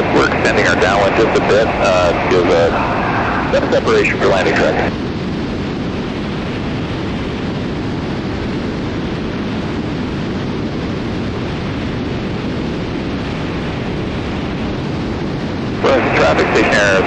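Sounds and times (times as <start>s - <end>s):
twin aircraft engines droning: 0.0s - 17.0s
wind rushing: 0.0s - 17.0s.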